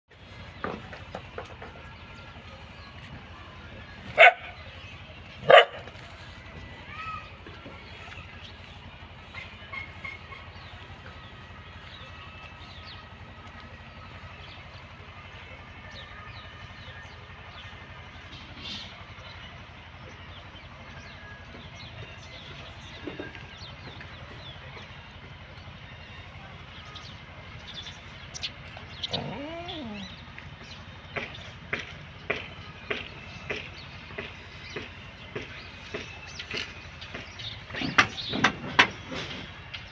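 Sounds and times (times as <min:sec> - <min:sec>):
distant engine rumble: 0:00.1 - 0:39.9
drawn-out animal call: 0:00.1 - 0:39.9.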